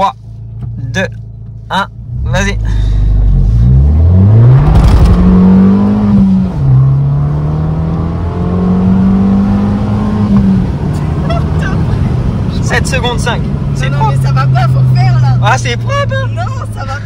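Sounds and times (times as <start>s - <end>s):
car engine accelerating hard: 2.0s - 17.0s.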